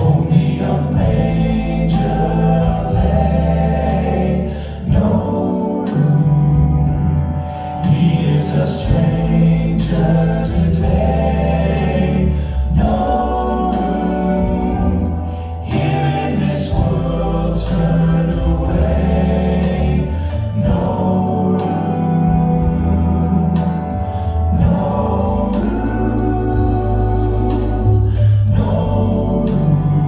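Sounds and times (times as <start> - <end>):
bass-heavy instrumental backing: 0.0 - 30.0
vocal group singing in harmony: 0.0 - 30.0.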